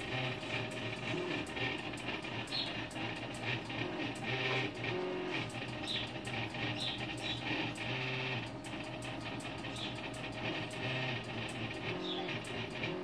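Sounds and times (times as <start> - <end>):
stepper motors whirring: 0.0 - 13.0.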